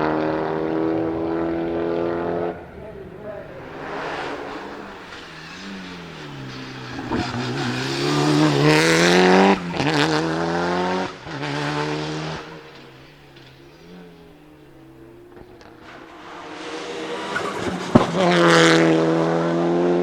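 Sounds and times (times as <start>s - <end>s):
rally car engine accelerating past: 0.0s - 20.0s.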